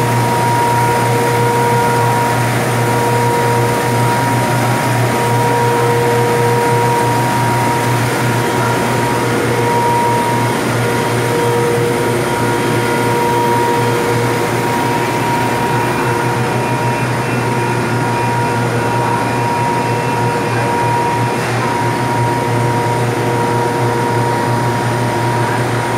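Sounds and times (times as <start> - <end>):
factory machinery drone: 0.0 - 25.9
machine whining tones: 0.0 - 25.9.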